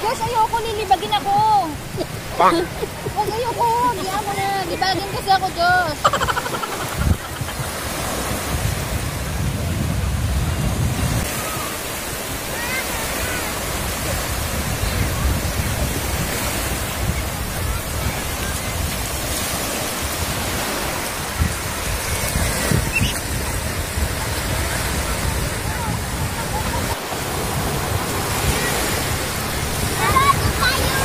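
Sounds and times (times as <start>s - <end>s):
waves washing on shore: 0.0s - 31.0s
wind buffeting microphone: 0.0s - 31.0s.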